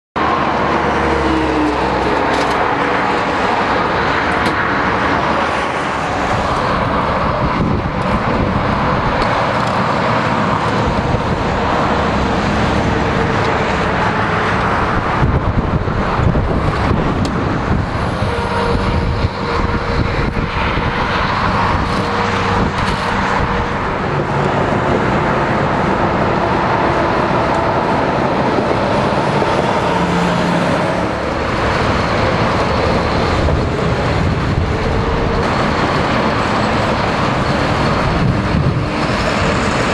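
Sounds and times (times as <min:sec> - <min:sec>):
highway traffic passing: 0:00.2 - 0:39.9.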